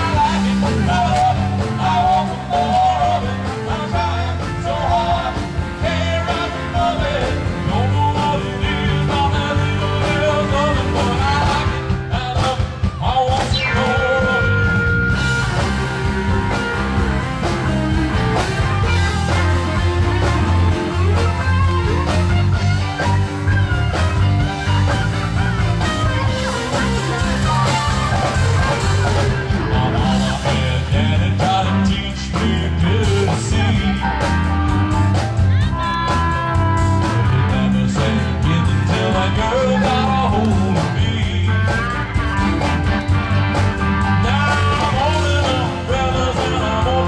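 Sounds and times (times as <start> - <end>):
person singing: 0.0 - 42.4, 44.0 - 47.0
electric guitar: 0.0 - 47.0
steady bass beat: 0.0 - 47.0.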